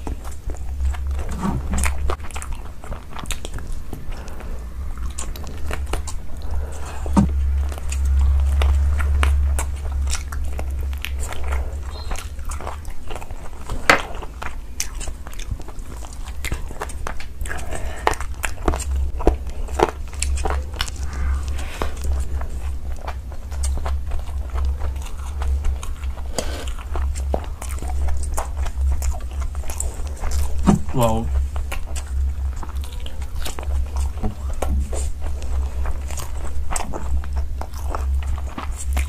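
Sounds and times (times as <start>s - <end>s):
chewing and smacking: 0.0s - 39.0s
steady low hum: 0.0s - 39.0s.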